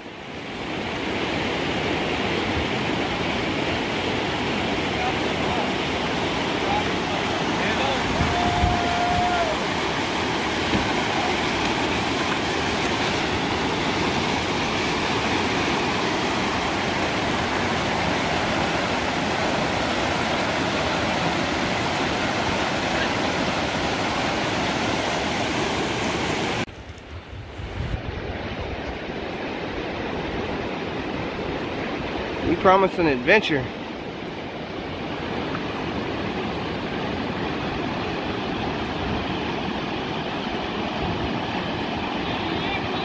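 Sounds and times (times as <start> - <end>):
river rapids rushing: 0.0 - 26.7, 28.2 - 43.0
quiet flow of water: 0.0 - 43.0.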